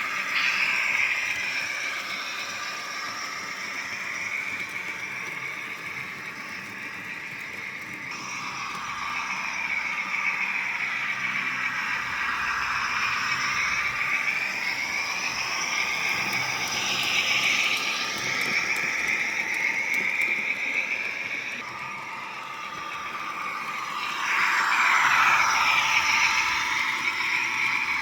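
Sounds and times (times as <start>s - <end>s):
model train mechanical whine: 0.0s - 28.0s.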